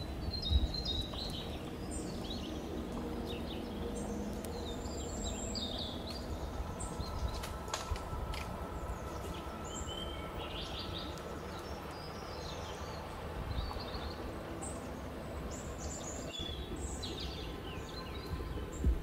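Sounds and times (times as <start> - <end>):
low background rumble: 0.0 - 19.0
small birds chirping: 0.0 - 19.0.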